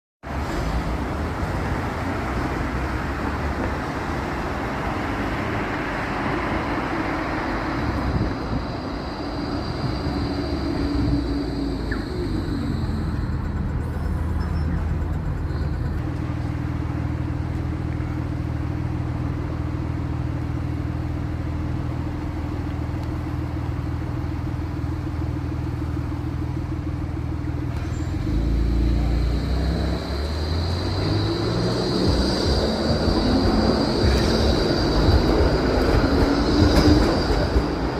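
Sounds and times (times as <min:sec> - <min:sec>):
road traffic: 0:00.2 - 0:37.9
tram rumbling: 0:00.2 - 0:37.9.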